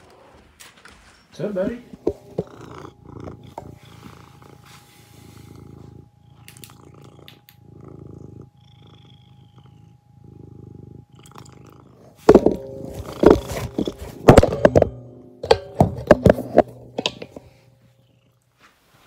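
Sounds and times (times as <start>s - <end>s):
cat purring: 1.3s - 15.3s, 16.1s - 19.0s.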